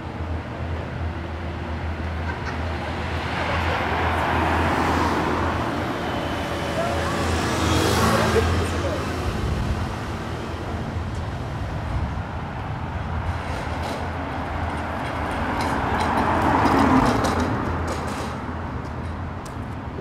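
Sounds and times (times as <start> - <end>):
train crossing viaduct: 0.0 - 20.0.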